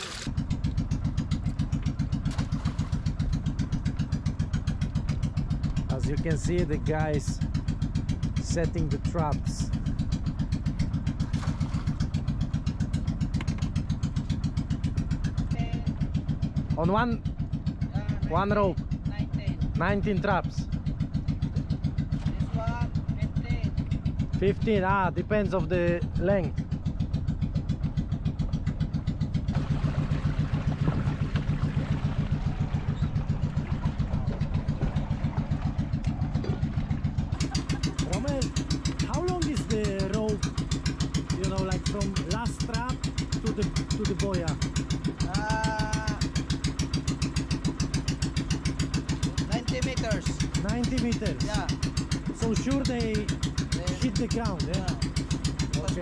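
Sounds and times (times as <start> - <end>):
water rushing along hull: 0.0 - 25.6, 28.6 - 56.0
boat engine pulsing: 0.0 - 56.0.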